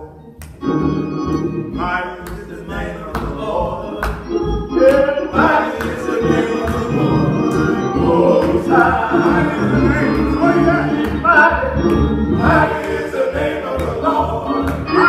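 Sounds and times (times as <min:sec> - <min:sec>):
instrumental accompaniment: 0:00.0 - 0:15.0
men singing gospel song: 0:01.7 - 0:15.0.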